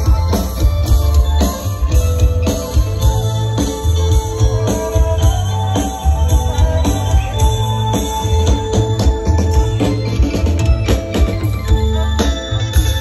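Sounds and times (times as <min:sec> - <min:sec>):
loud music with heavy bass: 0:00.0 - 0:13.0.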